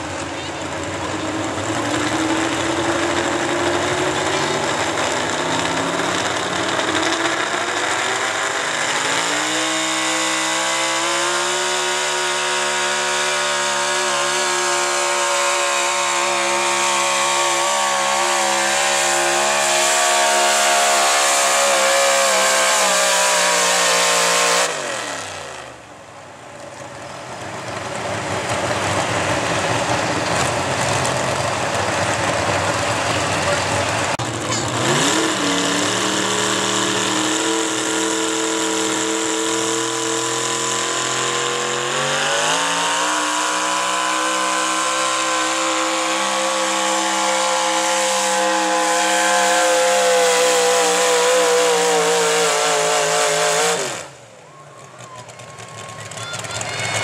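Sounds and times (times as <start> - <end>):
truck engine revving at full throttle: 0.0 - 54.4.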